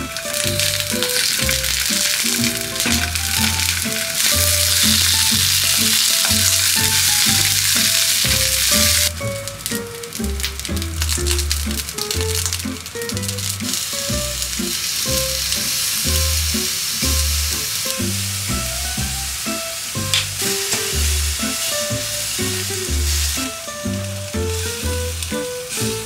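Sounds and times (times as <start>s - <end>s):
background music: 0.0s - 26.0s
food sizzling in oil: 0.0s - 26.0s.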